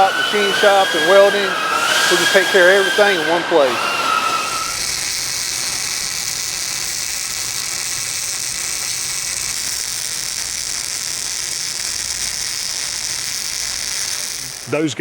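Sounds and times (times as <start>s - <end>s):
welding arc sizzling: 0.0s - 15.0s.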